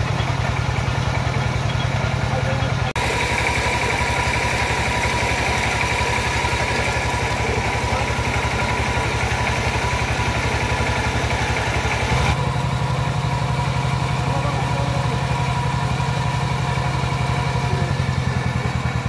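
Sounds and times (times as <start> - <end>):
drill rig engine running: 0.0 - 19.0.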